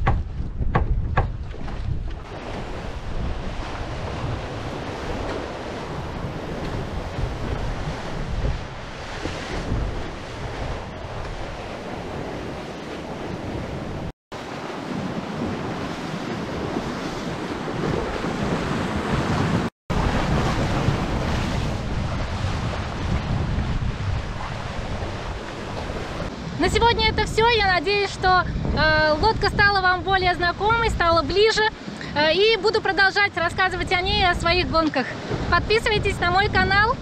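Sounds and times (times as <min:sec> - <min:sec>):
wind buffeting the microphone: 0:00.0 - 0:32.8, 0:33.4 - 0:37.0
water rushing along a hull: 0:00.0 - 0:37.0.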